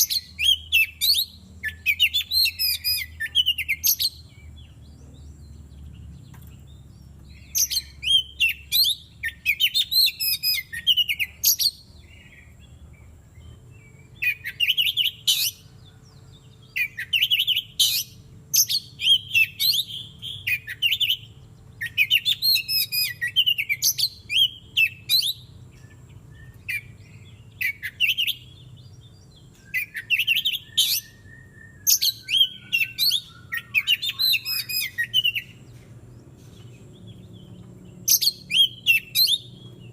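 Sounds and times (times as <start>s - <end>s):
songbird singing whistled phrases: 0.0s - 12.6s, 13.4s - 15.8s, 16.6s - 35.8s, 37.0s - 39.9s.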